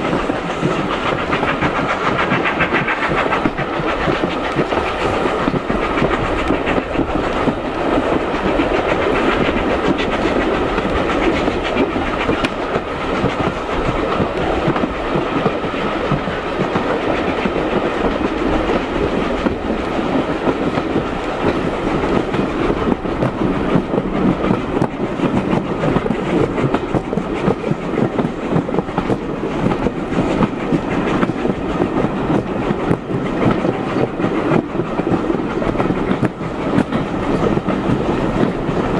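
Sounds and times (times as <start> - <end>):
railway carriage rumble: 0.0 - 38.9
wheels clicking over rail joints: 0.0 - 38.9.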